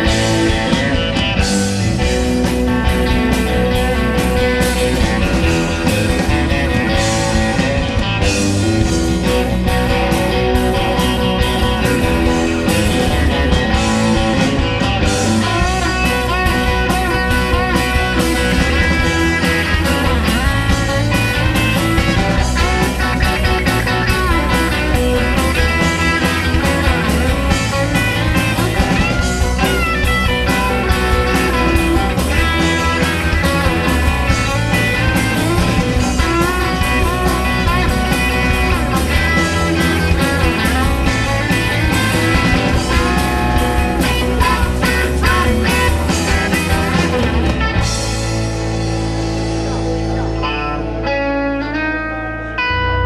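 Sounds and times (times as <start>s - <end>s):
steady drum beat: 0.0s - 50.3s
bass guitar: 0.0s - 53.0s
electric guitar with bent notes: 0.0s - 53.0s.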